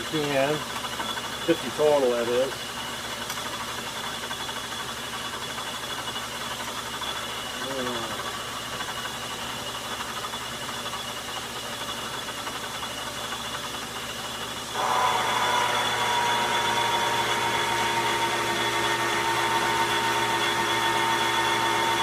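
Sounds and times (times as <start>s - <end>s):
lathe cutting whine: 0.0s - 22.0s
metal lathe running: 0.0s - 22.0s.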